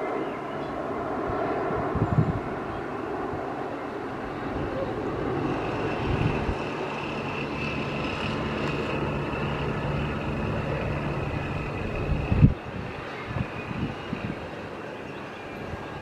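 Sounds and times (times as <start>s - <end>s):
jet engines whining: 0.0s - 16.0s
wind buffeting microphone: 0.8s - 14.8s.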